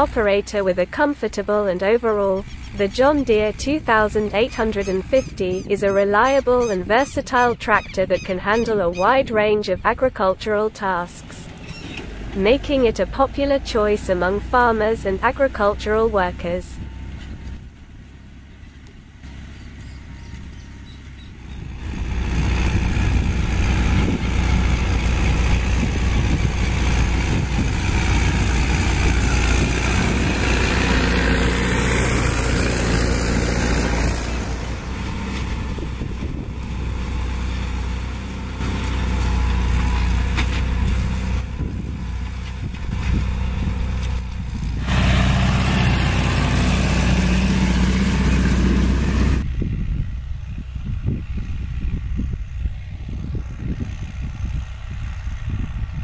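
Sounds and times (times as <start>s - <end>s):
diesel tractor engine under load: 0.0s - 56.0s.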